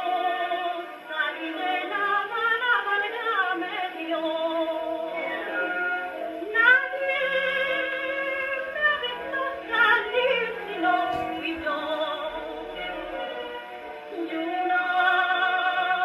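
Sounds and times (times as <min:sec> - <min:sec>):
gramophone record playing: 0:00.0 - 0:16.0
woman singing with vibrato: 0:00.0 - 0:16.0.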